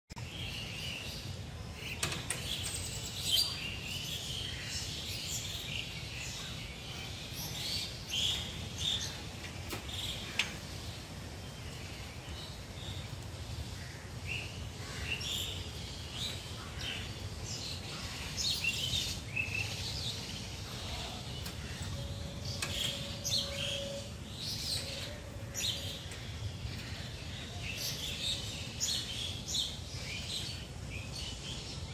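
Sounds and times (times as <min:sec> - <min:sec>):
small birds chirping: 0:00.1 - 0:31.9.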